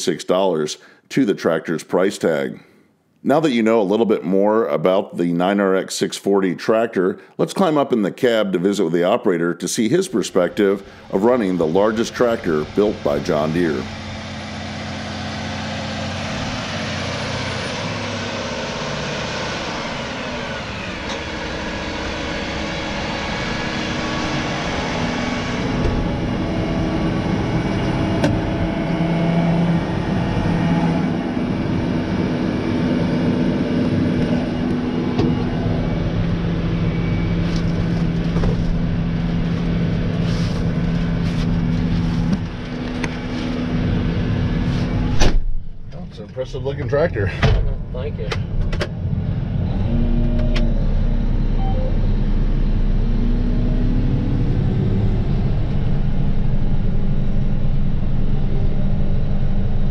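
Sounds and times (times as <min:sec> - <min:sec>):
tractor diesel engine running: 0:10.1 - 0:59.9.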